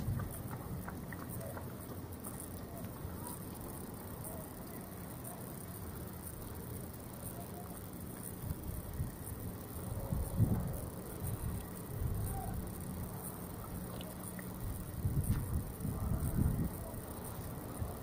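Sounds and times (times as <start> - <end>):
faint hiss: 0.0 - 18.0
steady low rumble: 0.0 - 18.0.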